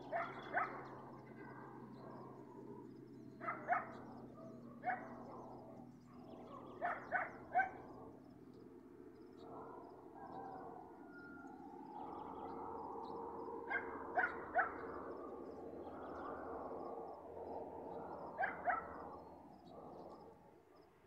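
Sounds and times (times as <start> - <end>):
distant countryside ambience: 0.0 - 21.0.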